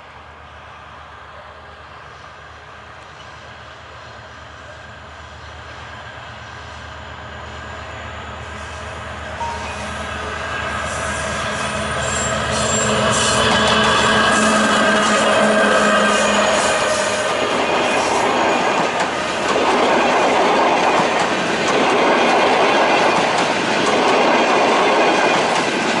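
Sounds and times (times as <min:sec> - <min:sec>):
diesel locomotive engine: 0:00.0 - 0:26.0
wheel and rail noise: 0:00.0 - 0:26.0.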